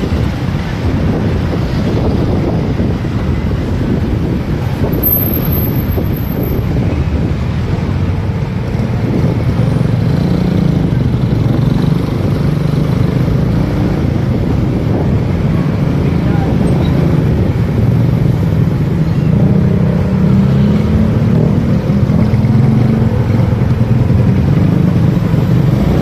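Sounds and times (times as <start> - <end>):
wind rush on microphone: 0.0 - 26.0.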